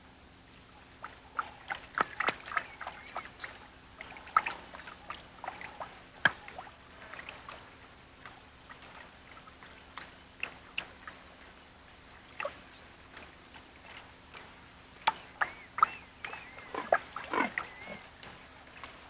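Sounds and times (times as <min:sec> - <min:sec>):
animals lapping water: 0:00.8 - 0:19.0.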